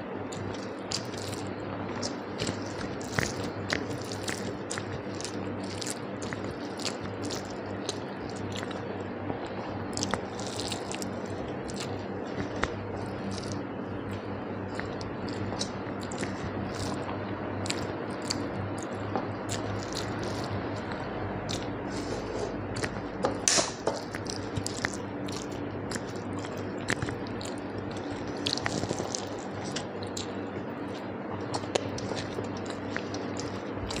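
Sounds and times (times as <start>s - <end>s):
steady low hum: 0.0s - 34.0s
wet chewing and smacking: 0.3s - 21.8s, 22.7s - 34.0s.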